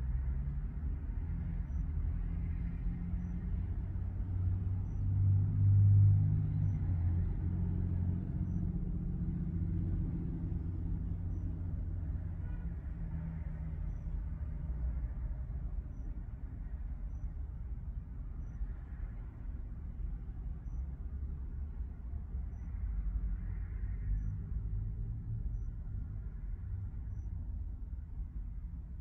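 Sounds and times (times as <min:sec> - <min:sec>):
truck engines rumbling: 0:00.0 - 0:29.0.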